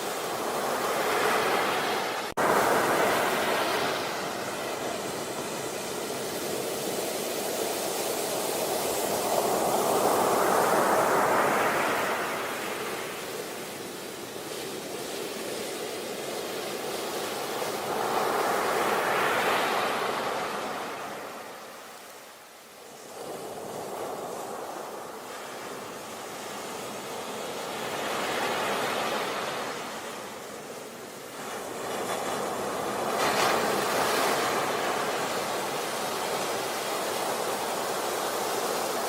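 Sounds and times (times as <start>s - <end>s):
sea waves breaking on beach: 0.0s - 39.0s.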